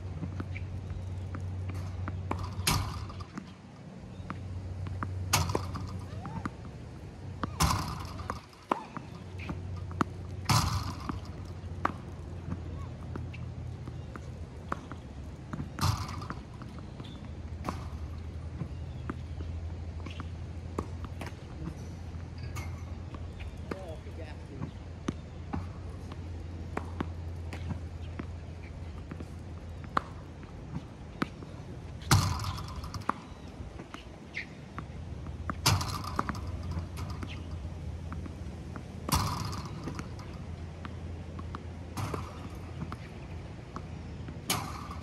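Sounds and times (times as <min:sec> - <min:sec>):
steady low hum: 0:00.0 - 0:45.0
tennis balls struck and bouncing: 0:00.0 - 0:45.0.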